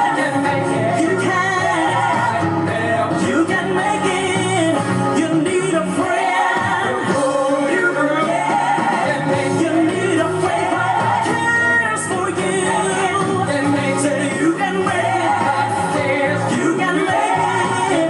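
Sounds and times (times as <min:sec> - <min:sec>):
band accompaniment: 0:00.0 - 0:18.0
gospel singing: 0:00.0 - 0:18.0.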